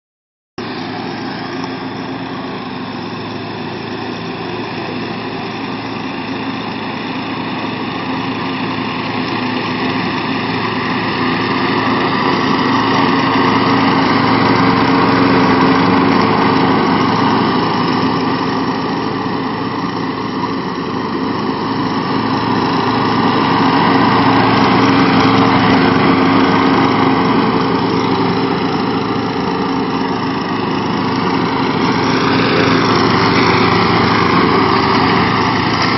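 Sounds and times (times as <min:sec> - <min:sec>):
lawn mower engines running: 0:00.6 - 0:35.9.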